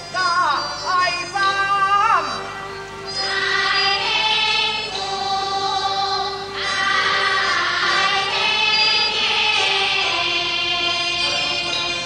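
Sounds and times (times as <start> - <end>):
opera music in long held notes: 0.0 - 12.0.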